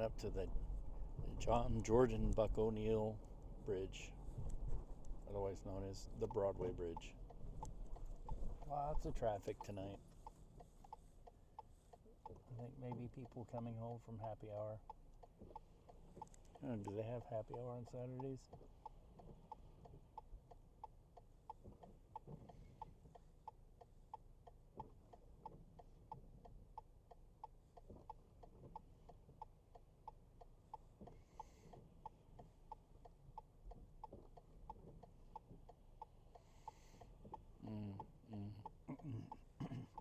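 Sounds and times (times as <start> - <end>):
turn signal clicking: 0.0 - 40.0.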